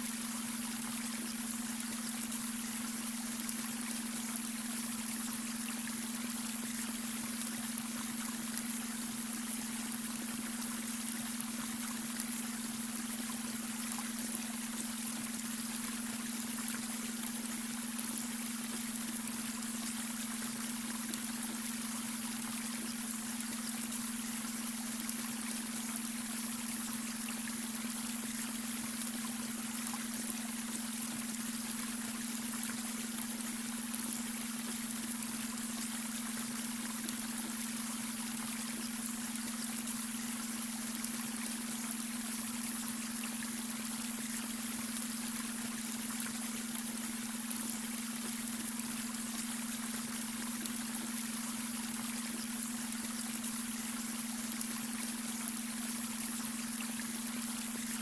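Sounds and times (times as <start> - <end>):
brook water trickling: 0.0 - 58.0
steady low hum tone: 0.0 - 58.0.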